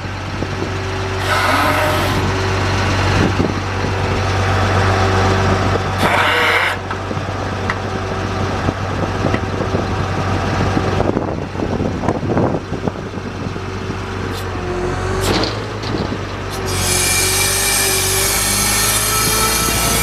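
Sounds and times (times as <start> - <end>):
rising whine: 0.0 - 20.0
truck engine running: 0.0 - 20.0.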